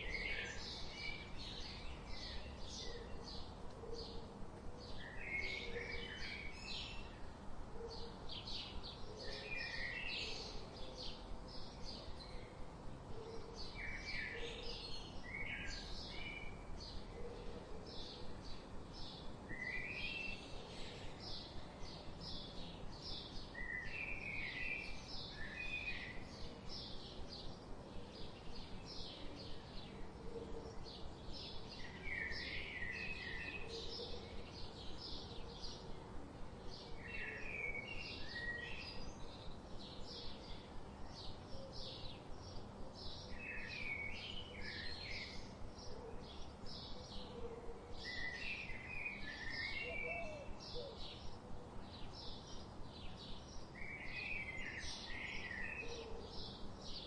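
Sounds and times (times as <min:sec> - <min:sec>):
small birds chirping: 0:00.0 - 0:12.6, 0:18.0 - 0:57.0
steady background hiss: 0:00.0 - 0:57.0.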